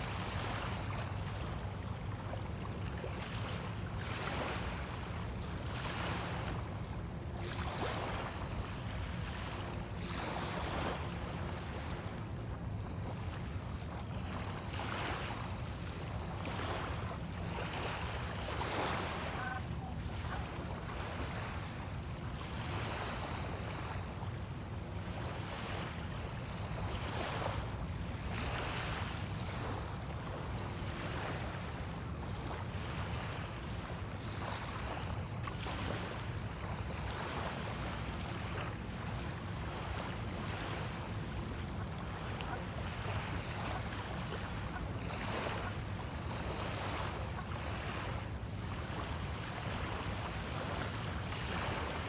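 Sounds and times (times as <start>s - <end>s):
small waves washing on sand: 0.0s - 52.0s.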